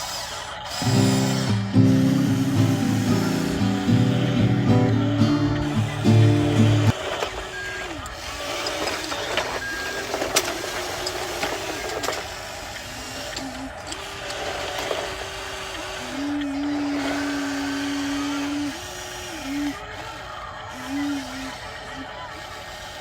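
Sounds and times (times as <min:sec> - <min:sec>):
small electric motors whining: 0:00.0 - 0:23.0.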